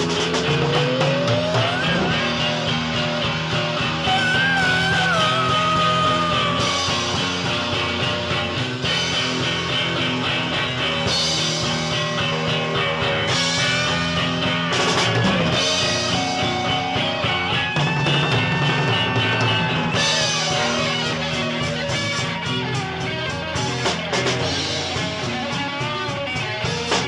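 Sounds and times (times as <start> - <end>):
rock music: 0.0 - 27.0
sliding lead guitar line: 0.0 - 27.0.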